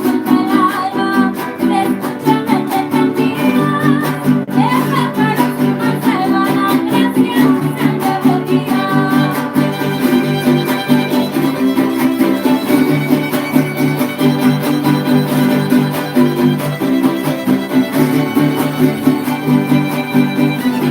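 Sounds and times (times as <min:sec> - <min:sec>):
guitars strumming: 0:00.0 - 0:20.9
violin melody: 0:00.0 - 0:20.9.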